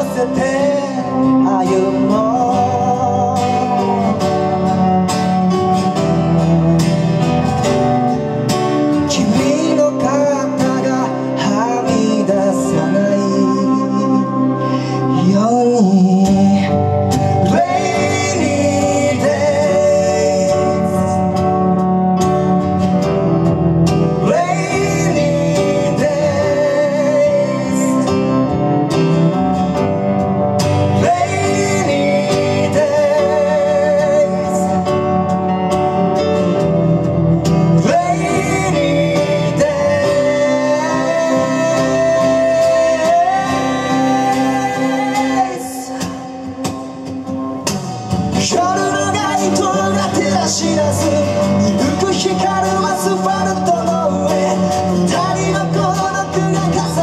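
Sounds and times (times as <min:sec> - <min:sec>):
bass drums and backing instruments: 0:00.0 - 0:13.6, 0:15.2 - 0:57.0.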